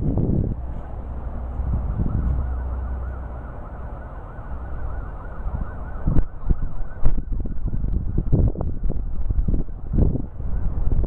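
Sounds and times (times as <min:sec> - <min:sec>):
low rumble of strong wind: 0:00.0 - 0:11.0
wind gusts hitting microphone: 0:00.0 - 0:11.0
electronic siren yelping: 0:00.8 - 0:09.6.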